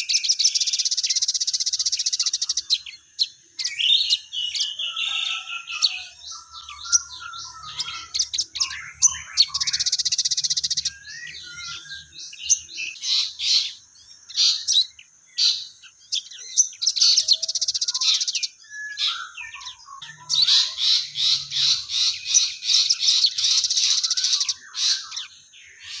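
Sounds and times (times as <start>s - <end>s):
songbird chirps and buzzy trills: 0.0s - 4.9s, 6.1s - 26.0s.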